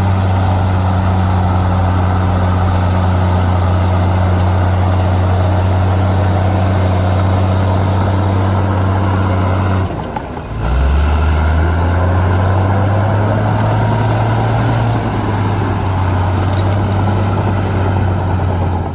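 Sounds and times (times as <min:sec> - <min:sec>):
heavy diesel engine running: 0:00.0 - 0:18.9.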